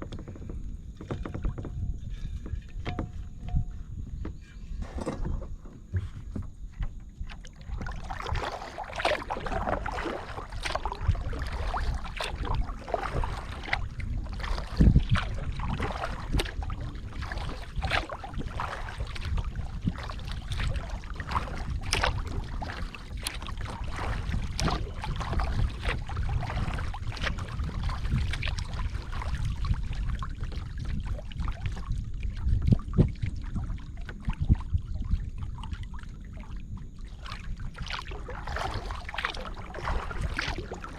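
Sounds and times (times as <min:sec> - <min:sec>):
paddle splashing in water: 0:00.0 - 0:40.9.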